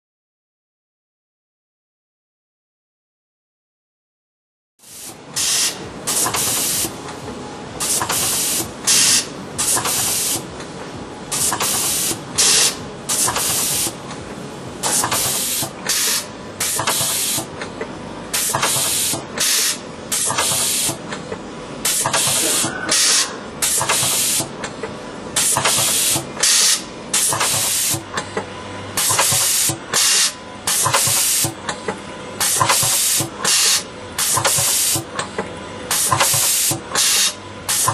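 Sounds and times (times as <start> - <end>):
machine hum: 4.8 - 37.9.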